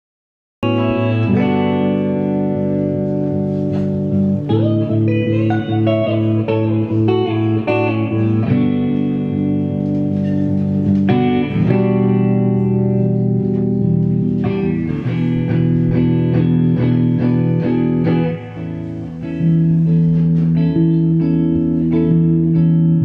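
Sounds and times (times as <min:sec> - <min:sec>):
electric guitar chords: 0:00.6 - 0:23.0.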